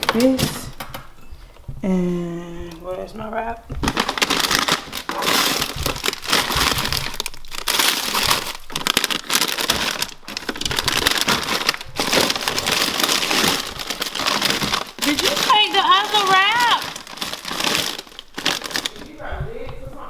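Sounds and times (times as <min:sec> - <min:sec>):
plastic packaging crinkling: 0:00.0 - 0:01.8, 0:03.7 - 0:20.0.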